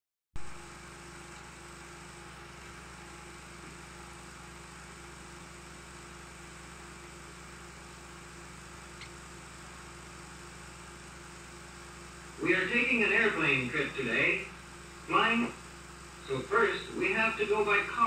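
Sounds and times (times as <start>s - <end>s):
film soundtrack hiss: 0.4s - 18.0s
low hum: 0.4s - 18.0s.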